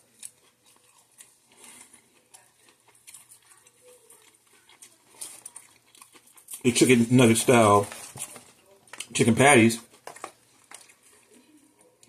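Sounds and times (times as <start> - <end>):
faint chewing: 0.0 - 12.0.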